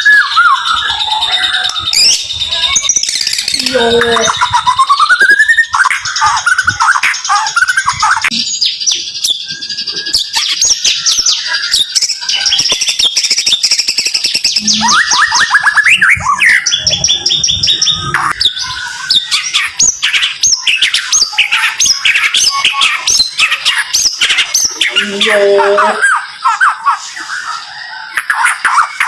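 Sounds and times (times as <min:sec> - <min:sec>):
shama bird singing: 0:00.0 - 0:29.0.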